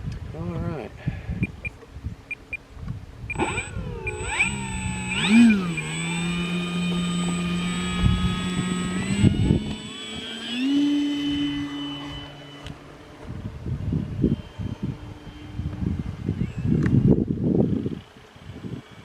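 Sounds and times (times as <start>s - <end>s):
wind rumbling on microphone: 0.0s - 19.0s
electric motor and propeller whining: 1.3s - 19.0s.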